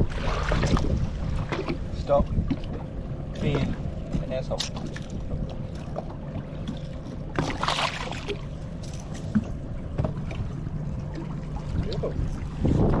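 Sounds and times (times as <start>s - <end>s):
outboard motor idling: 0.2s - 13.0s.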